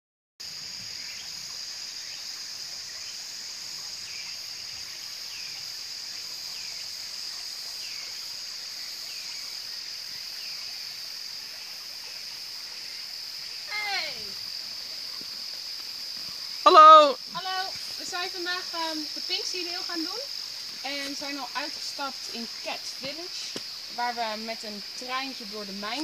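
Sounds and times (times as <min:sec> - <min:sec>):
high-pitched insect chorus: 0:00.4 - 0:26.0
shallow stream rushing: 0:00.5 - 0:26.0.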